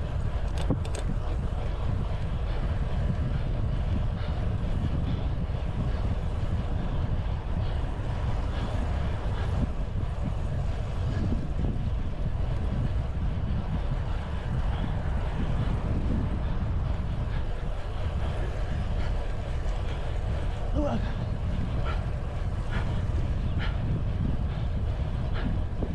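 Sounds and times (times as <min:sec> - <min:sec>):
road noise rumble: 0:00.0 - 0:25.9
wind buffeting microphone: 0:00.0 - 0:25.9.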